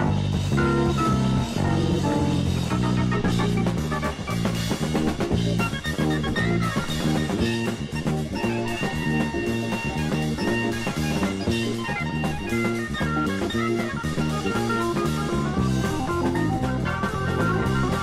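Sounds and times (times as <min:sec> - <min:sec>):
rock band music: 0:00.0 - 0:18.0.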